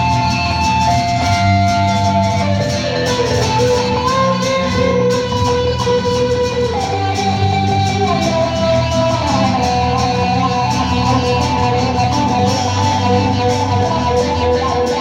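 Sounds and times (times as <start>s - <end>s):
acoustic band playing instrumental: 0.0s - 15.0s
sliding guitar melody notes: 0.0s - 15.0s.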